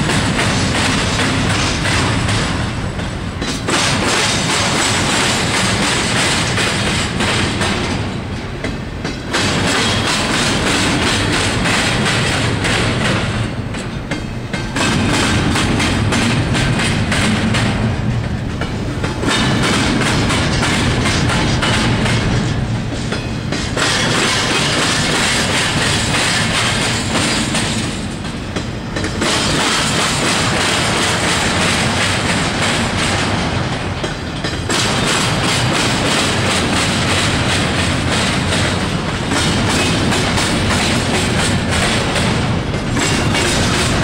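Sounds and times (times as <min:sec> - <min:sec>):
train wheels clattering on rails: 0:00.0 - 0:44.0.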